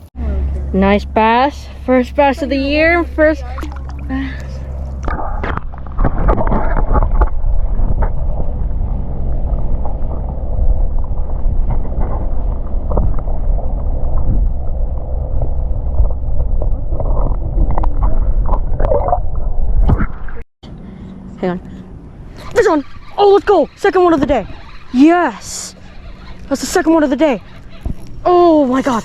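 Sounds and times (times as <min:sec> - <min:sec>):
wind buffeting microphone: 0:00.0 - 0:20.4, 0:21.8 - 0:29.0.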